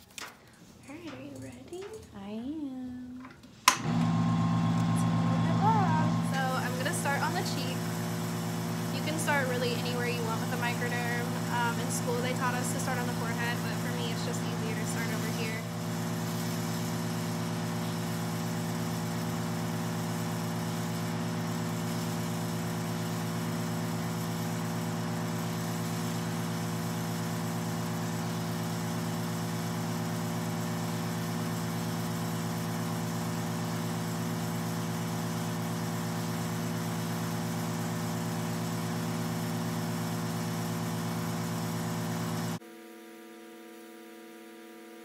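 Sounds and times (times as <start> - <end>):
suction pump humming: 3.7 - 42.8.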